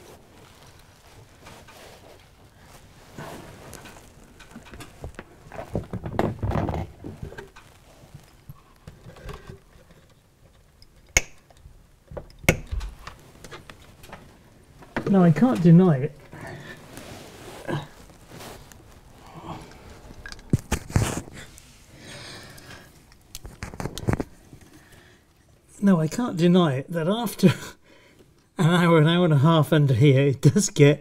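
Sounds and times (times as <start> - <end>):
rustling and shuffling: 0.0 - 10.8, 11.6 - 26.4.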